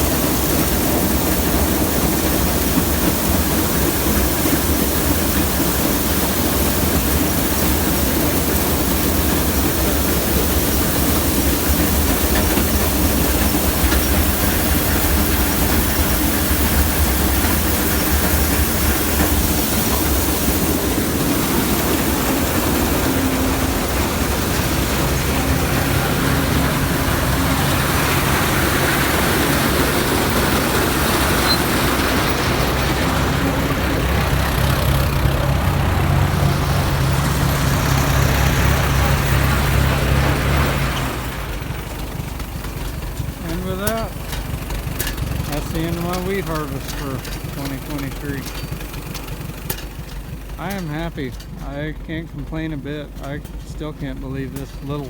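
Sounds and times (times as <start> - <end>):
combine harvester rumble: 0.0 - 55.0
low engine hum: 0.0 - 55.0
wide mechanical hiss: 0.0 - 55.0.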